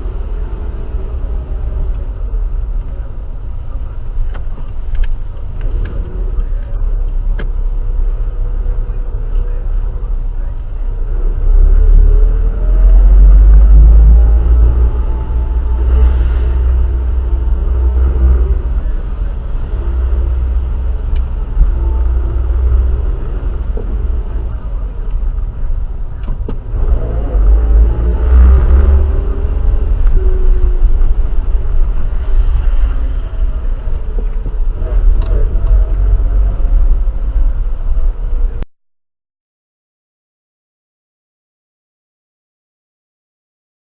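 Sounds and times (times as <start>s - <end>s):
engine and road noise rumble: 0.0s - 38.7s.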